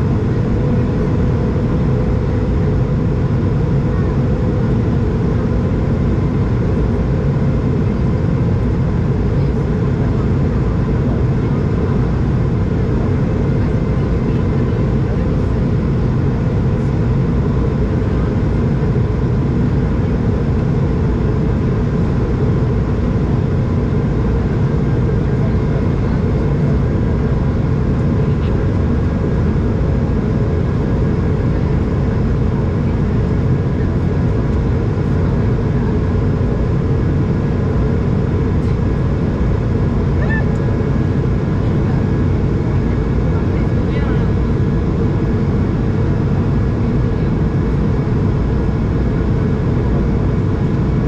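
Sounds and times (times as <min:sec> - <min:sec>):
jet engines humming: 0:00.0 - 0:51.0
rush of air in aircraft cabin: 0:00.0 - 0:51.0.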